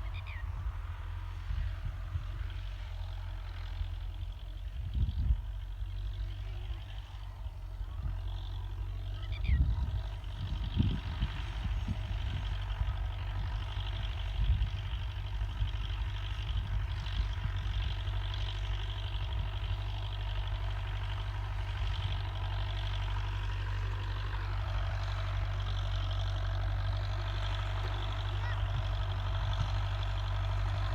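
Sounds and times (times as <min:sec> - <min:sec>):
tractor engine rumbling: 0:00.0 - 0:30.9.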